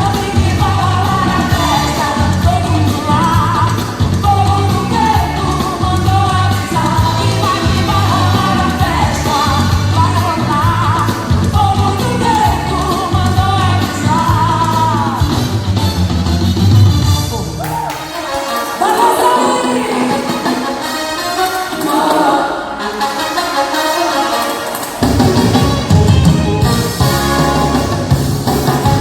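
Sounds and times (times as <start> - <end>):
upbeat pop song with singing: 0.0 - 15.9, 17.6 - 27.2.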